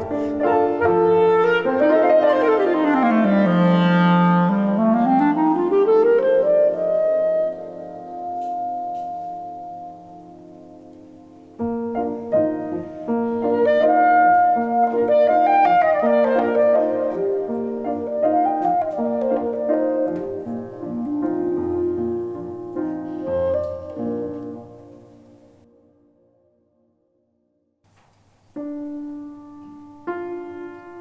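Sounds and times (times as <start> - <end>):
clarinet: 0.0 - 25.6
grand piano: 0.0 - 26.6, 27.9 - 31.0.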